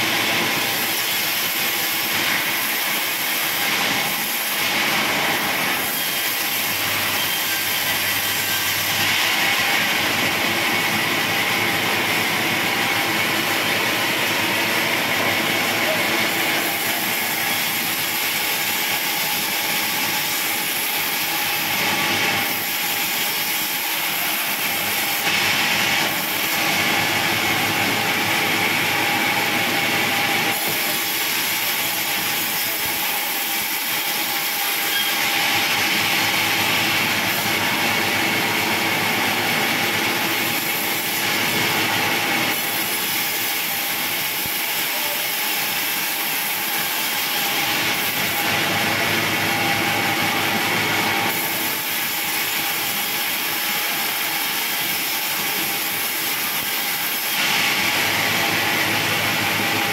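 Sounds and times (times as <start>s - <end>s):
band saw cutting timber: 0.0s - 59.9s.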